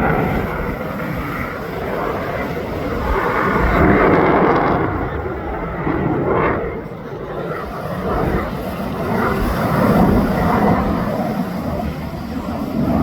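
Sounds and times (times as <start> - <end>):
jet engine rushing roar: 0.0 - 13.0.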